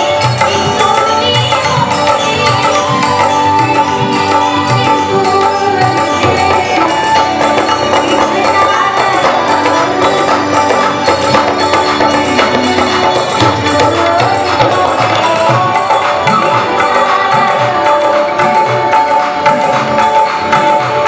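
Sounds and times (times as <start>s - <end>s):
harmonium: 0.0s - 21.0s
tabla: 0.0s - 21.0s
woman singing: 0.0s - 21.0s.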